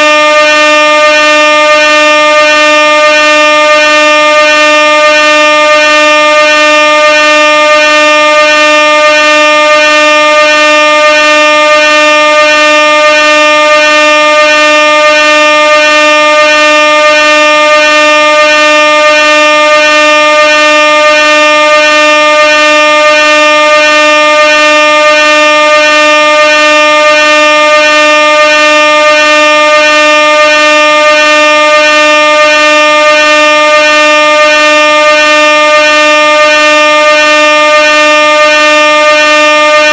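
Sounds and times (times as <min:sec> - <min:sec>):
air horn blaring: 0:00.0 - 0:39.9.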